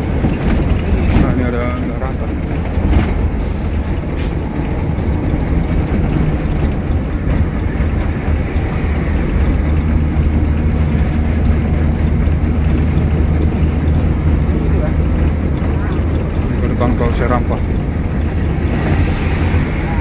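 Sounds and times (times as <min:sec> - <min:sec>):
bus engine drone: 0:00.0 - 0:20.0
tyre noise on road: 0:00.0 - 0:20.0.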